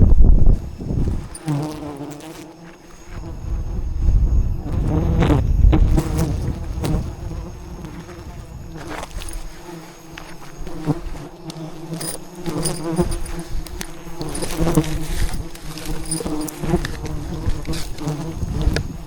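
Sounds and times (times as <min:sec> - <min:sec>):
bees buzzing: 0:00.4 - 0:19.0.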